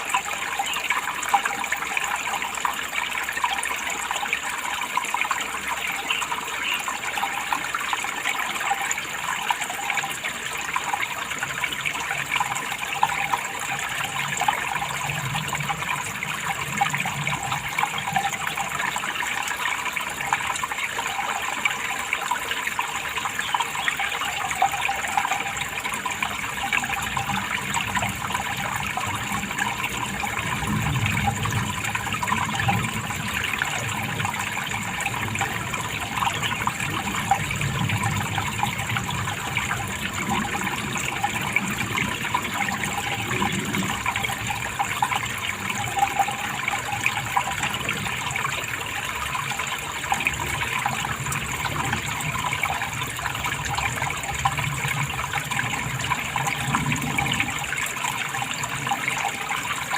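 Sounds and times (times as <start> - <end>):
running water splashing: 0.0 - 59.9.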